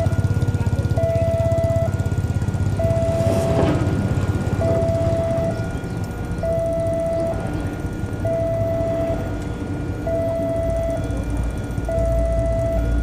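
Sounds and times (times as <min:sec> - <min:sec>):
level crossing alarm pulses: 0:00.0 - 0:13.0
low engine rumble: 0:00.0 - 0:13.0.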